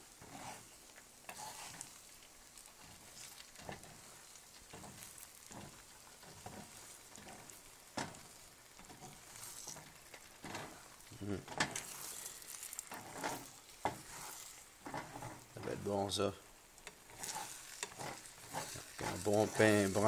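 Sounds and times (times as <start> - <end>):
spatula scraping a pan: 0.0 - 15.9, 16.8 - 20.0
food sizzling in a frying pan: 0.0 - 20.0.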